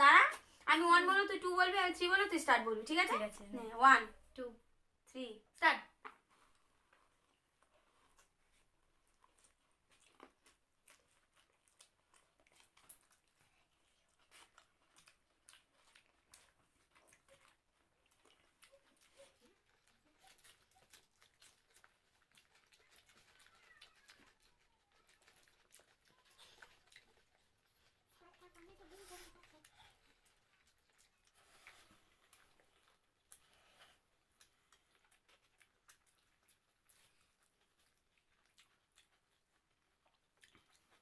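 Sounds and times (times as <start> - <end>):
chewing and mouth smacks: 6.0 - 41.0.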